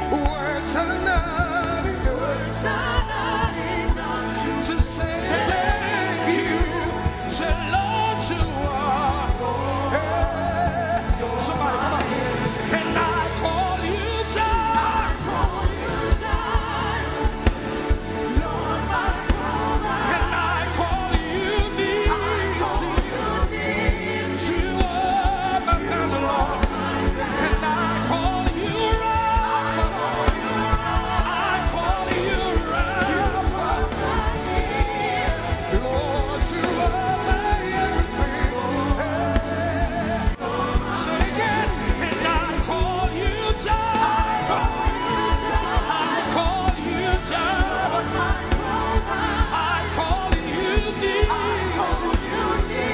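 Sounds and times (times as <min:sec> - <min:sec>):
full band with steady beat: 0:00.0 - 0:52.9
gospel singing: 0:00.0 - 0:52.9.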